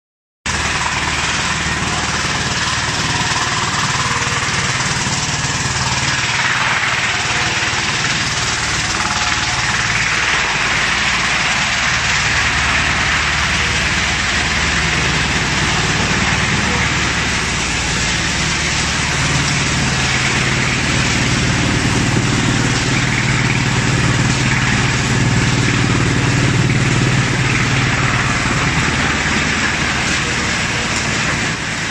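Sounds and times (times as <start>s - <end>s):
wood chipper chipping branches: 0.5s - 31.9s.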